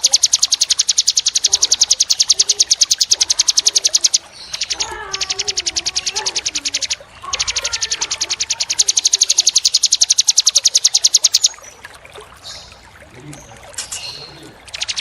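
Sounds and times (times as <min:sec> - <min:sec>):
songbird trilling: 0:00.0 - 0:11.8, 0:12.4 - 0:15.0.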